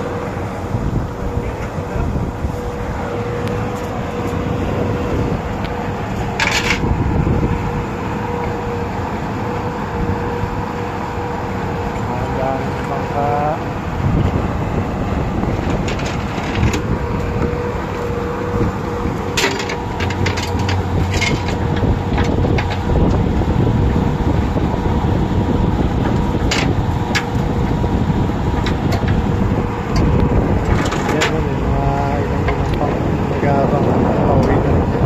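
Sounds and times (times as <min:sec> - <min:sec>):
outboard motors droning: 0:00.0 - 0:35.0.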